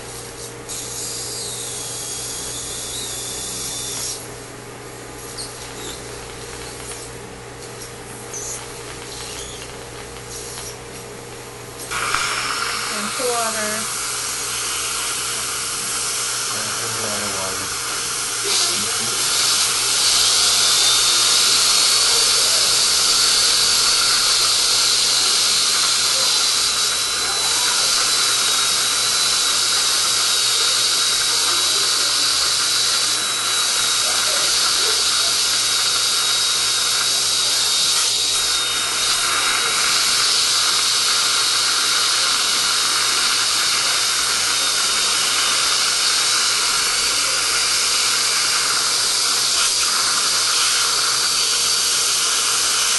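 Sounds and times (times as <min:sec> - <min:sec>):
dental drill whine: 0:00.0 - 0:04.4, 0:05.0 - 0:10.9, 0:11.8 - 0:52.9.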